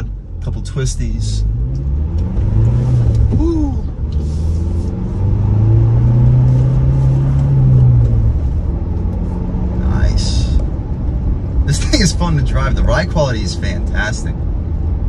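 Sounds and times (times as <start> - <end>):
car engine drone from cabin: 0.0 - 15.0.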